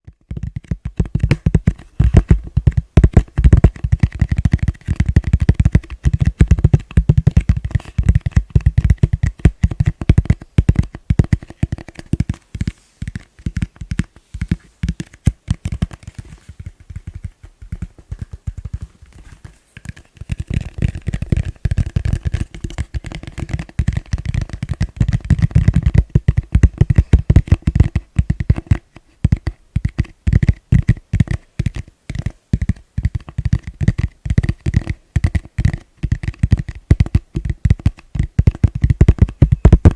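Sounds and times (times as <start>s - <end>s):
fingers tapping plastic bowl: 0.0s - 39.9s.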